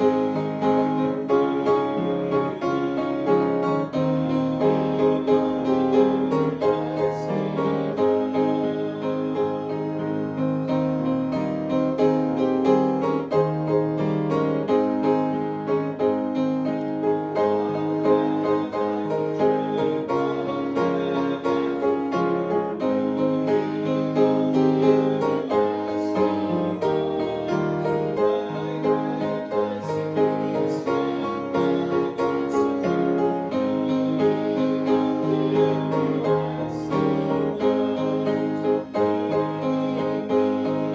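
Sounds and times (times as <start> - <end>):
slow hymn-style piano piece: 0.0 - 40.9.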